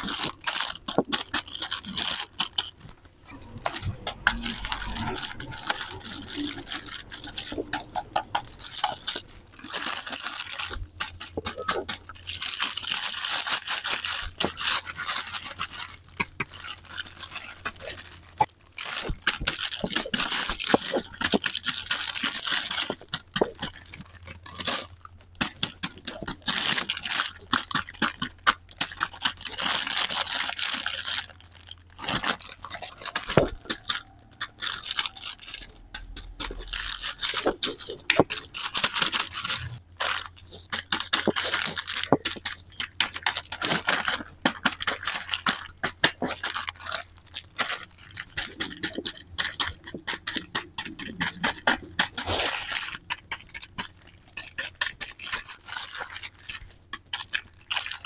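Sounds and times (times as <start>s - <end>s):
plastic packaging crinkling: 0.0s - 58.0s.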